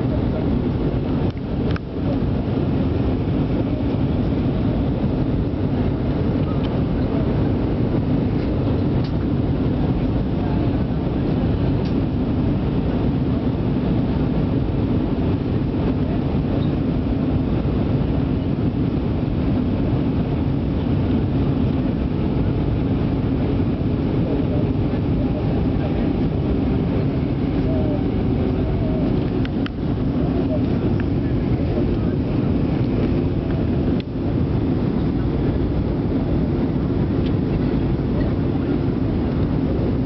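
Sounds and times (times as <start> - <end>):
airplane engines droning: 0.0 - 40.0
low hum: 0.0 - 40.0.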